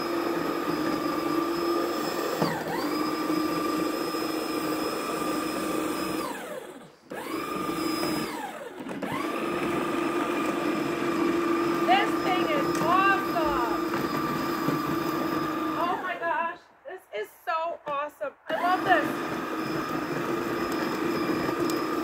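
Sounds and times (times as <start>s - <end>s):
electric snow shovel motor whining: 0.0s - 16.4s, 18.5s - 22.0s.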